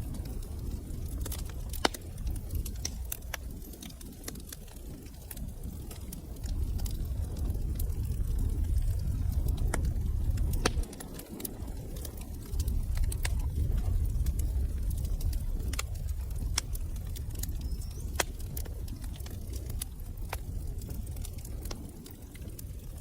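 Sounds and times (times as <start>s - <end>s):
low rumble: 0.0s - 23.0s
wood fire crackling and popping: 0.0s - 23.0s.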